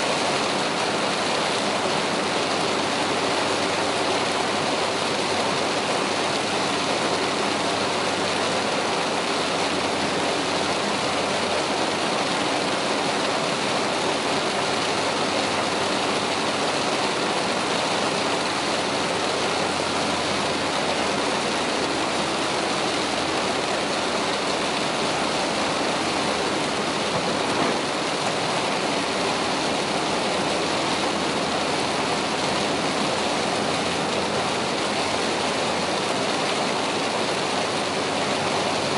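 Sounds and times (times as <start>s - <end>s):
heavy rain on car roof: 0.0s - 38.9s.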